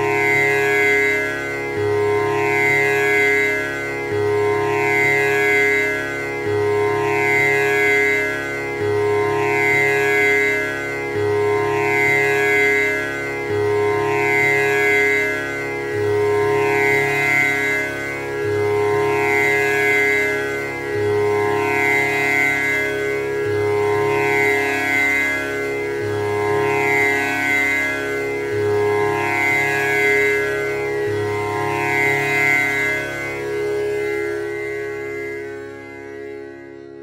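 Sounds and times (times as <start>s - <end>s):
tanpura drone plucked strings: 0.0s - 37.0s.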